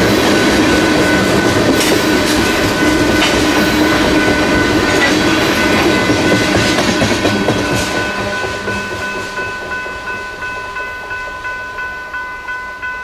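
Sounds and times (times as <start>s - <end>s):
train wheels clattering on rails: 0.0s - 11.8s
crossing bell ringing: 0.0s - 13.0s.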